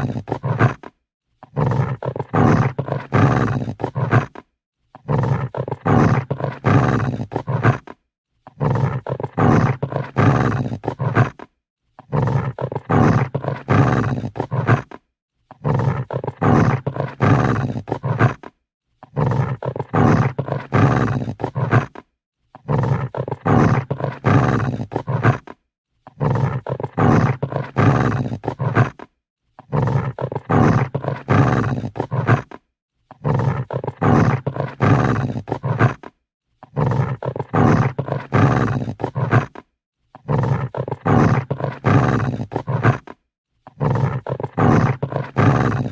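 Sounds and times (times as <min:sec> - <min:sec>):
dog growling: 0:00.0 - 0:45.9.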